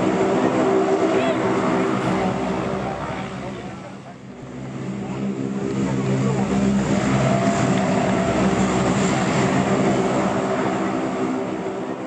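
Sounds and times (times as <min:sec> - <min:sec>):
rushing air noise: 0:00.0 - 0:12.0
turboprop aircraft engines droning: 0:00.0 - 0:12.0.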